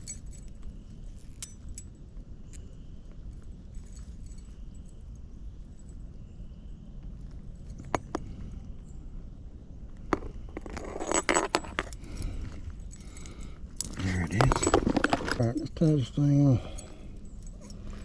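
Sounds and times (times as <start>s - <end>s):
fishing tackle clinking and rattling: 0.0s - 6.0s, 7.2s - 9.1s, 10.0s - 18.0s.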